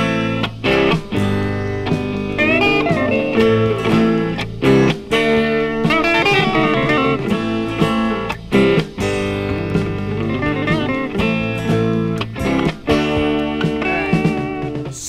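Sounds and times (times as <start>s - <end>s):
electric lead guitar bent notes: 0.0s - 15.0s
strummed acoustic guitar: 0.0s - 15.0s.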